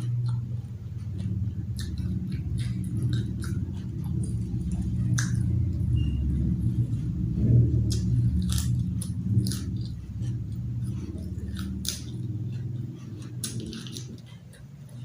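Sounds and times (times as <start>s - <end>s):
continuous low rumble: 0.0s - 15.0s
person chewing food: 0.0s - 15.0s.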